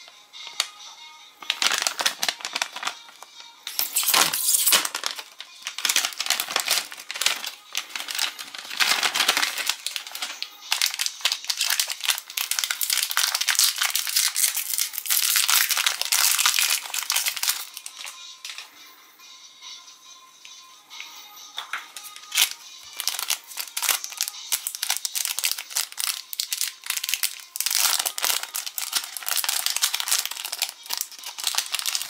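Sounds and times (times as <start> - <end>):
plastic and foil wrapper crinkling: 1.4 - 18.7, 21.6 - 32.0.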